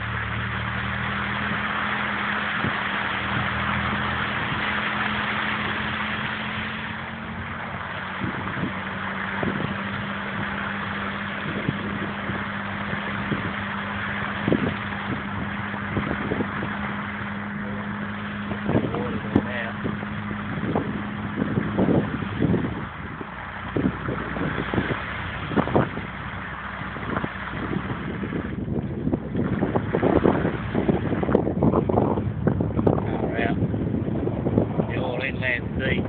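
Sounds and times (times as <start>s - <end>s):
car engine running: 0.0s - 36.0s.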